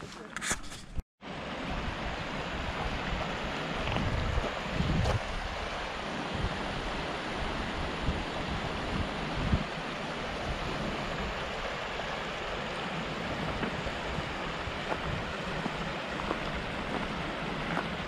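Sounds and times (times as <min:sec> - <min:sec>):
stream running over rocks: 0:01.2 - 0:18.0
wind buffeting microphone: 0:01.7 - 0:11.8, 0:12.7 - 0:18.0.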